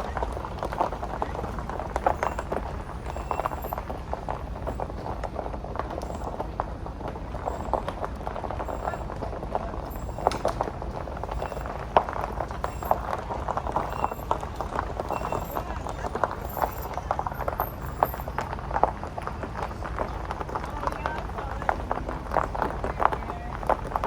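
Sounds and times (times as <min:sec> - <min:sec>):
low road rumble: 0:00.0 - 0:24.0
tyres crunching on stones: 0:00.0 - 0:24.0.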